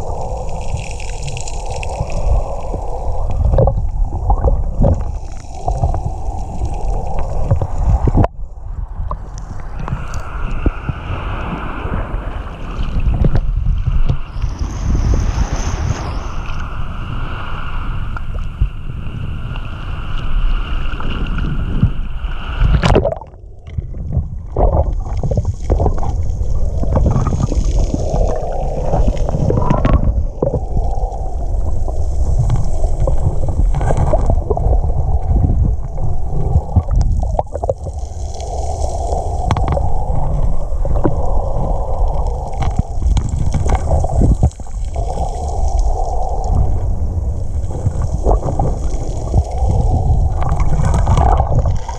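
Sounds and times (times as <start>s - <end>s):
low underwater rumble: 0.0s - 51.9s
underwater sloshing and gurgling: 0.0s - 51.9s
wind: 0.0s - 51.9s.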